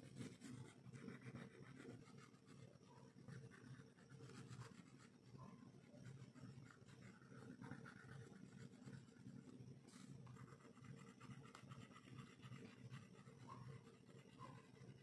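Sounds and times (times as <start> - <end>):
crayon scratching on paper: 0.0 - 2.6, 3.2 - 5.2, 6.0 - 15.0.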